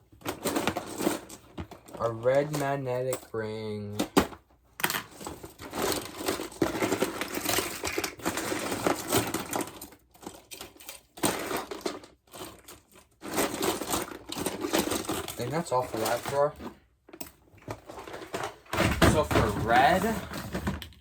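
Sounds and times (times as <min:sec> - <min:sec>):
plastic toys rattling in a drawer: 0:00.0 - 0:21.0.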